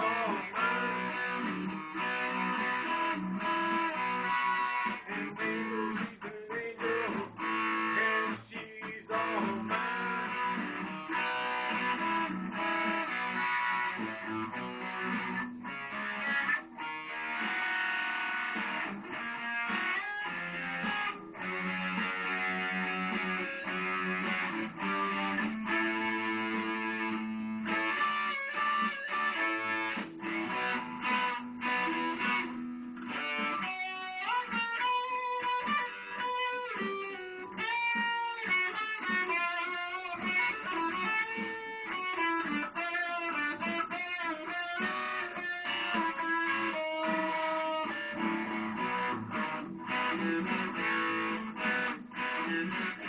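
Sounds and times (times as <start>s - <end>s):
electric guitar melody: 0.0s - 53.0s.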